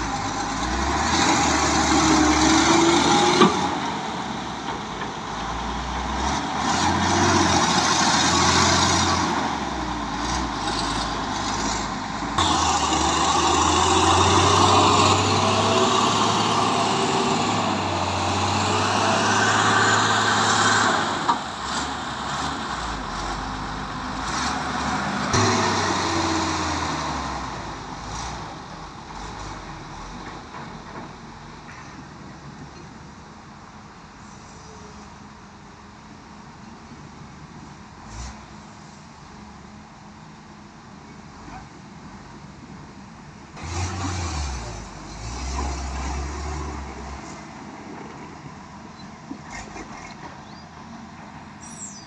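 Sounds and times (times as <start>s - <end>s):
heavy diesel engines under load: 0.0s - 52.0s.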